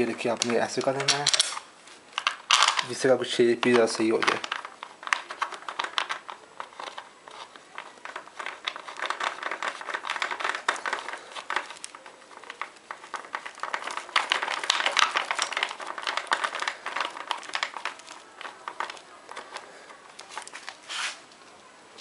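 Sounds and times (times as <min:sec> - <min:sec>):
hands handling wires and parts: 0:00.0 - 0:21.6.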